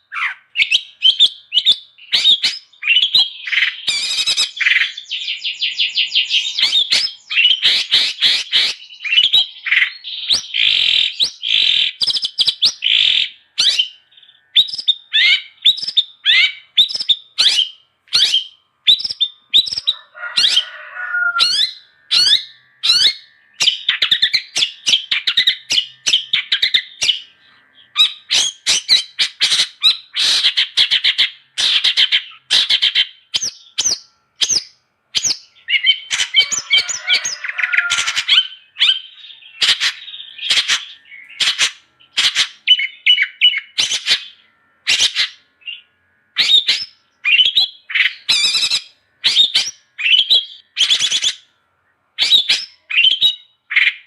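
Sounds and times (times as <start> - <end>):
bird chattering song: 0.0 - 51.5, 52.2 - 54.0.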